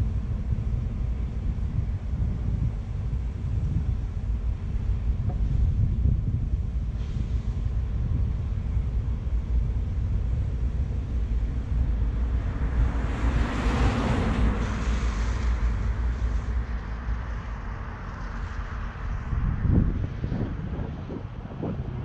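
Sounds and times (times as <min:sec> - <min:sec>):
wind buffeting microphone: 0:00.0 - 0:22.0
car tyre noise passing: 0:00.1 - 0:22.0.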